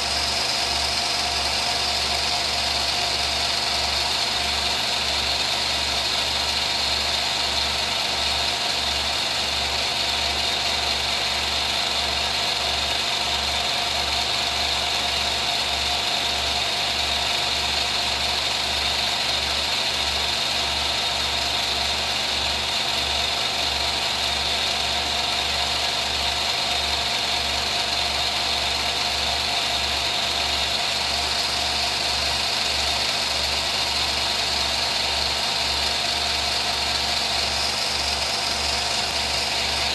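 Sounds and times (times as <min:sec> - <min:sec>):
film projector motor whir: 0:00.0 - 0:39.9.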